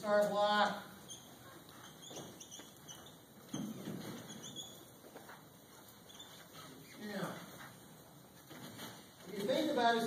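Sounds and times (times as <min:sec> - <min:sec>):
marker squeaking on whiteboard: 0:01.0 - 0:09.1.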